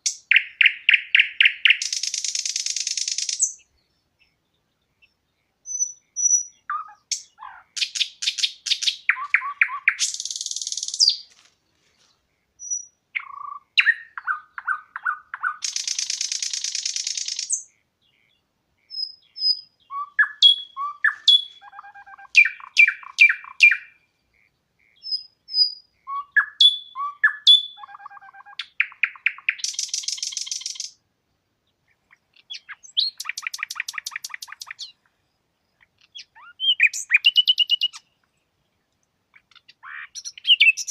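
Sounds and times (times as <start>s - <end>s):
songbird singing with buzzy trill: 0.0s - 40.9s.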